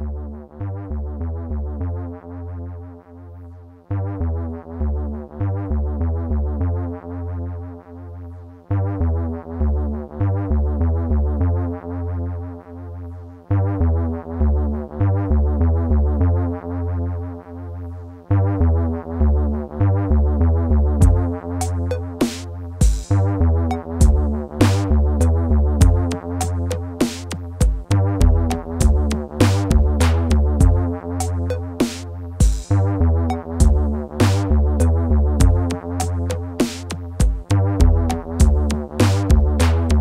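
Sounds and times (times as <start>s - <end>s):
electronic synthesizer music: 0.0s - 40.0s.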